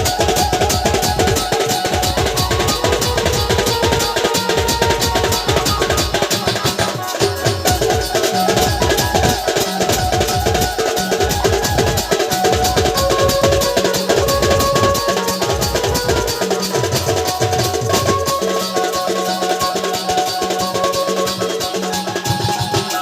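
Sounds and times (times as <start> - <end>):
fast dense drumming: 0.0 - 18.9
held melody line: 0.0 - 23.0
jingling percussion: 0.0 - 23.0.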